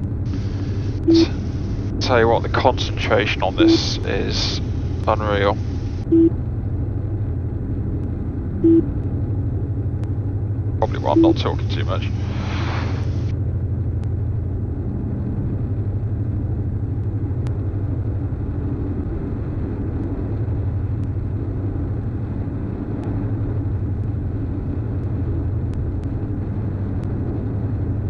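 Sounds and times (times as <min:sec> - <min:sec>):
aircraft cabin engine drone: 0:00.0 - 0:28.0.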